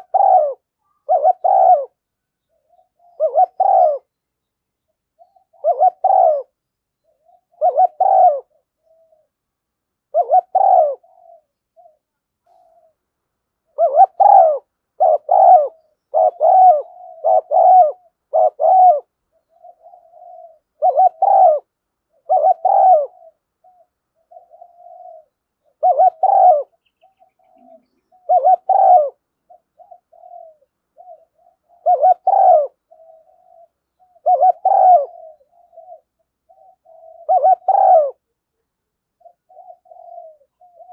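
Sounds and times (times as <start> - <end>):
dove cooing: 0.0 - 4.2, 5.1 - 40.9.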